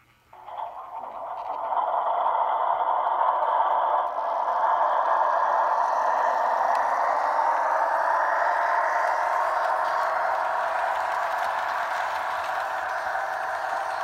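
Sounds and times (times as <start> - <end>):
model train whirring rattle: 0.0 - 14.0.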